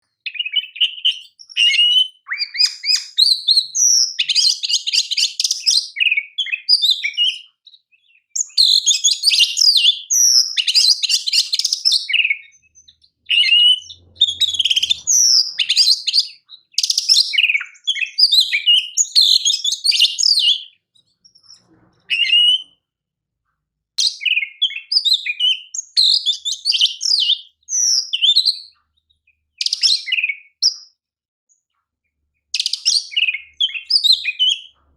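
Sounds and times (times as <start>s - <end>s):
songbird whistles and trills: 0.0s - 22.8s, 24.0s - 31.0s, 32.4s - 34.8s.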